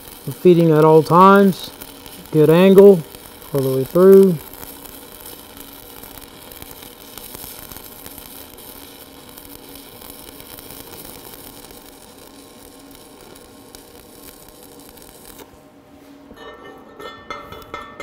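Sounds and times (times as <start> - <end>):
stick welding arc crackling: 0.0 - 15.6, 16.4 - 18.0.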